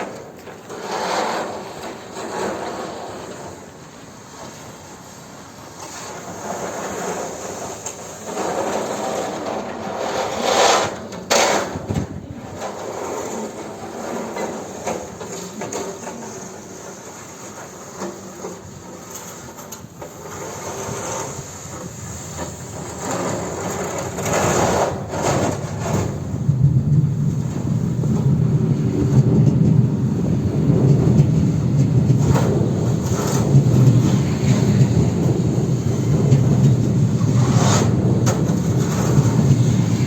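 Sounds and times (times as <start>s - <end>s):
train wheels clattering on rails: 0.0s - 40.0s.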